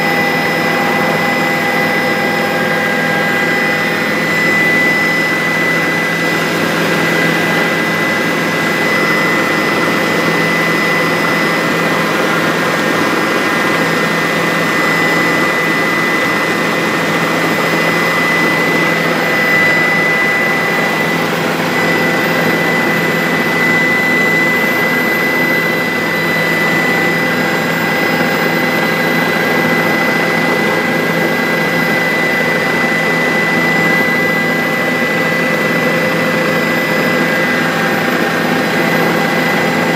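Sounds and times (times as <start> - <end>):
helicopter engine and rotor drone: 0.0 - 39.9
high whine: 0.0 - 39.9.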